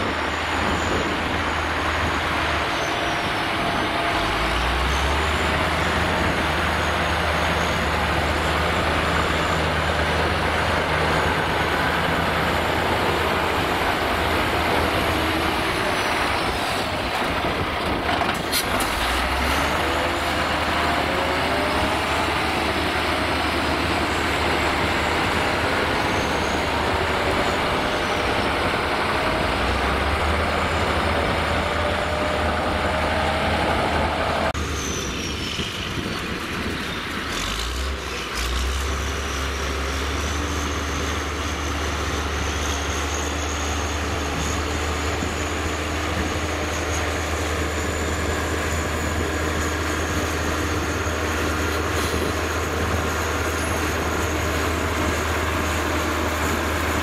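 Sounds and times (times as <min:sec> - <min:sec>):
truck diesel engine: 0:00.0 - 0:57.0.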